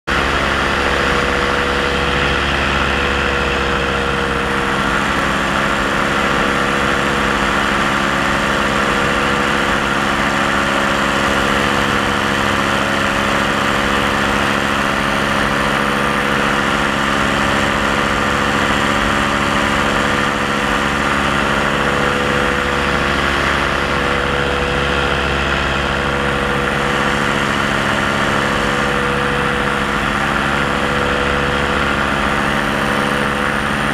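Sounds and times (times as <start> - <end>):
paramotor engine and propeller: 0.0 - 33.9.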